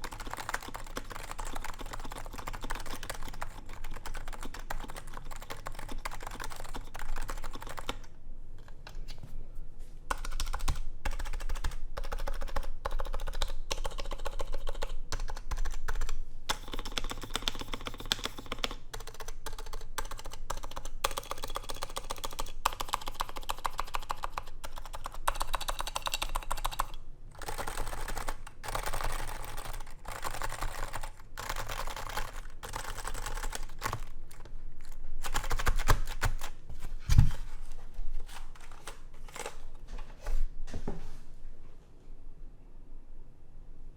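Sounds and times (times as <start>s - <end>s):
keyboard typing: 0.0s - 9.1s, 10.1s - 36.6s, 38.5s - 39.8s.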